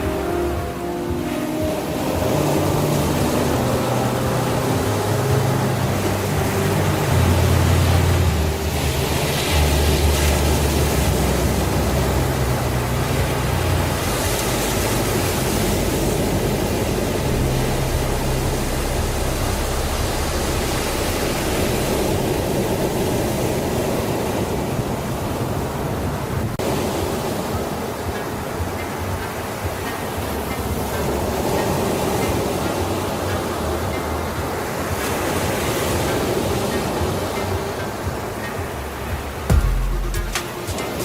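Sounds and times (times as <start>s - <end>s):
slow instrumental music: 0.0s - 24.8s, 26.5s - 41.0s.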